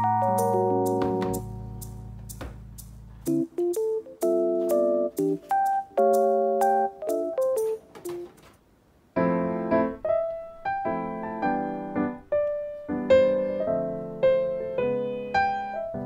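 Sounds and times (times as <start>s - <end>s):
background piano music: 0.0s - 8.5s, 9.1s - 16.0s.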